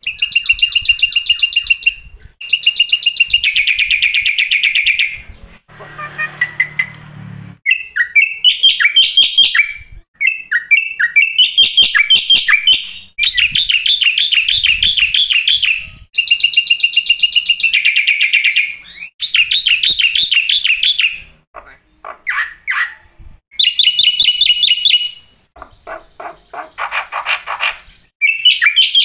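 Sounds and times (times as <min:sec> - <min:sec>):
bird trilling and chattering: 0:00.0 - 0:07.0, 0:07.6 - 0:29.0.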